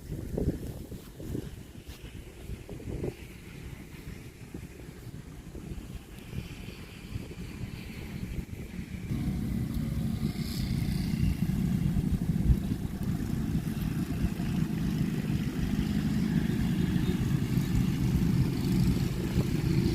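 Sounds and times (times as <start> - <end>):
engine humming: 3.7 - 19.9.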